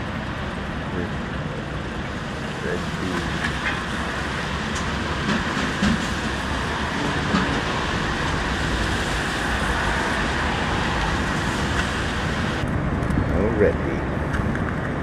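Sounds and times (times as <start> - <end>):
falling rain hiss: 0.0 - 12.6.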